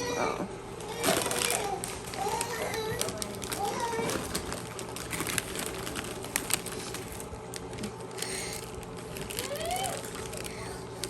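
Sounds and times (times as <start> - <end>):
potato chip crunching: 0.8 - 11.0.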